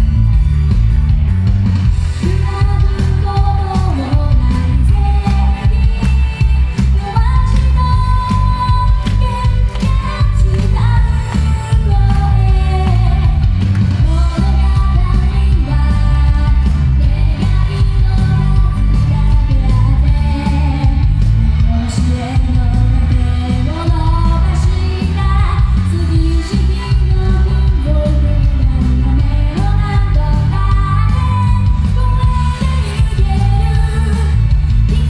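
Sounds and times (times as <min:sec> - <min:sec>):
pop music with heavy bass: 0:00.0 - 0:35.0
woman singing into a microphone: 0:02.0 - 0:35.0.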